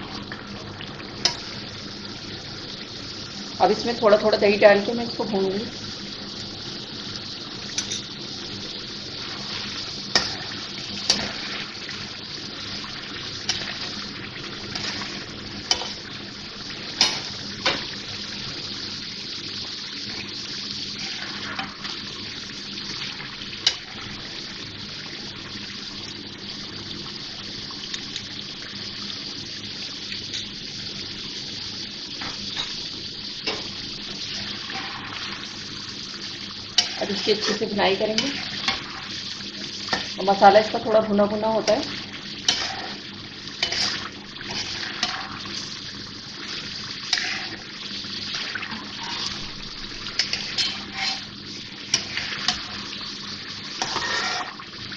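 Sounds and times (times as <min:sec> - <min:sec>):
curry sizzling in hot oil: 0:00.0 - 0:54.9.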